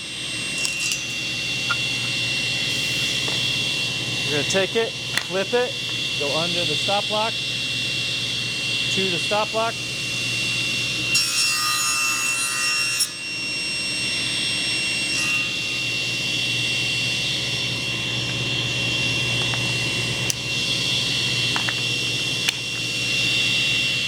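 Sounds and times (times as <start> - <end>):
miter saw cutting wood: 0.0 - 24.0
steady mechanical hum: 0.0 - 24.0.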